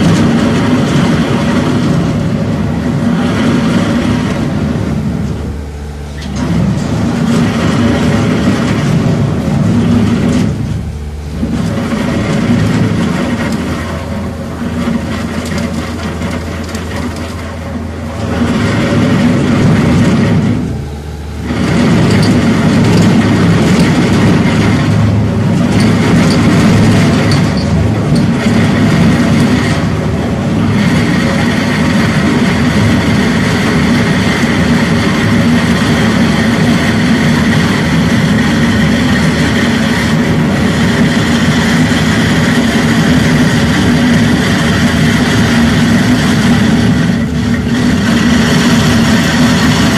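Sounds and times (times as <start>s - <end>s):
loader with wheel saw running: 0.0s - 49.9s.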